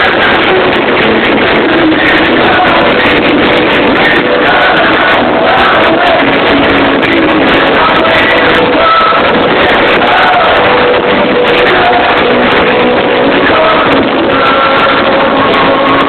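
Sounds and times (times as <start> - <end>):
live rock music with vocals: 0.0 - 16.0.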